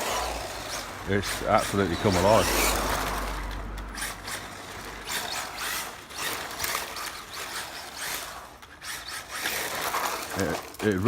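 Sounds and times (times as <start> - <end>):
rc car motor whirring: 0.0 - 11.0.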